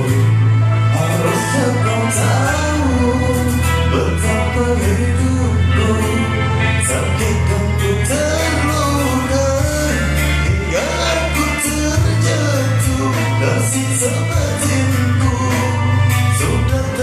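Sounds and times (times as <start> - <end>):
band playing: 0.0 - 17.0
person singing: 0.0 - 17.0.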